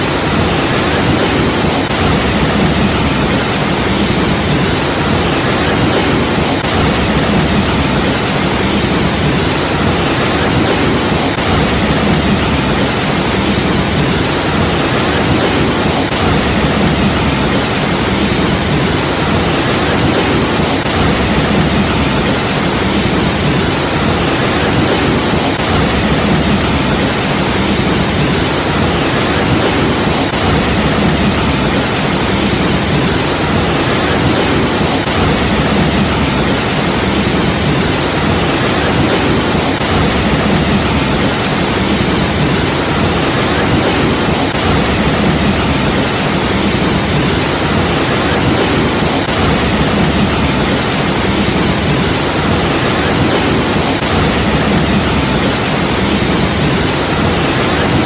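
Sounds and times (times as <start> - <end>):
waterfall pouring and crashing: 0.0 - 58.0.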